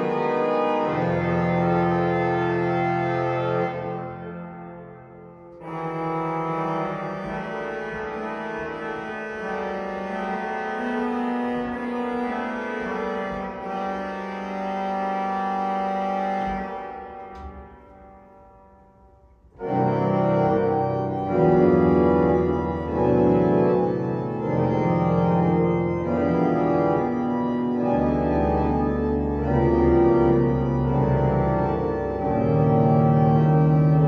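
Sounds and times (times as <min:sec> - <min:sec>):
pipe organ playing chords: 0:00.0 - 0:34.0.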